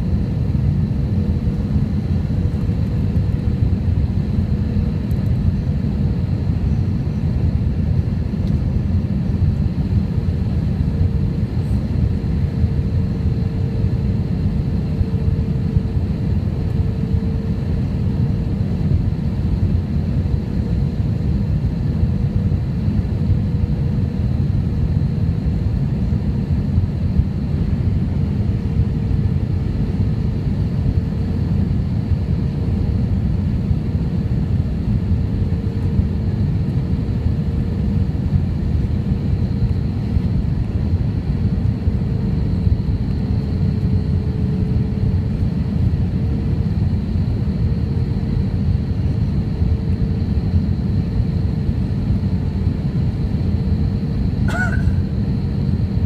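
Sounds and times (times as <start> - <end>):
aircraft engine hum: 0.0 - 56.0.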